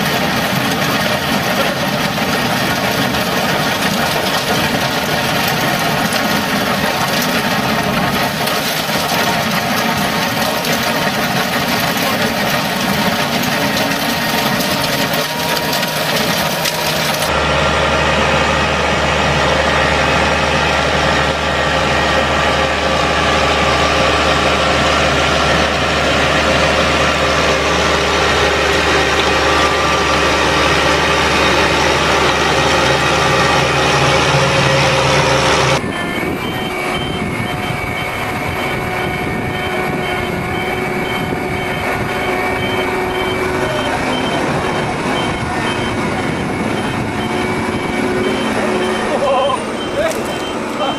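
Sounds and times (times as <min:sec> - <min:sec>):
track loader engine working: 0:00.0 - 0:50.9
tractor engine humming: 0:00.0 - 0:50.9.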